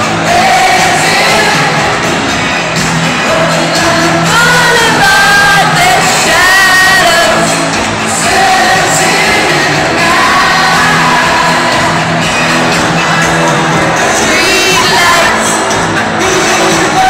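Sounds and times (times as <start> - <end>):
crowd shouting: 0.0 - 17.0
loud music: 0.0 - 17.0
voices singing: 0.0 - 17.0.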